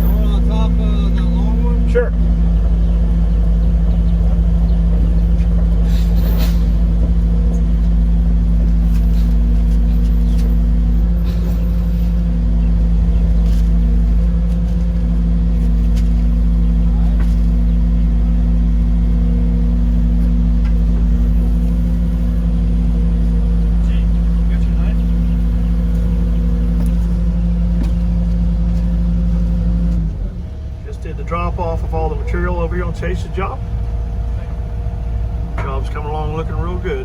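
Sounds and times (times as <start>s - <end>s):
engine droning steadily: 0.0s - 37.0s.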